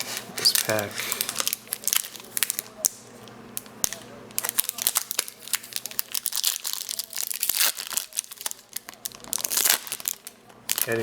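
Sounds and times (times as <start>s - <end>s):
wrapper crinkling and tearing: 0.0s - 3.0s, 3.6s - 11.0s.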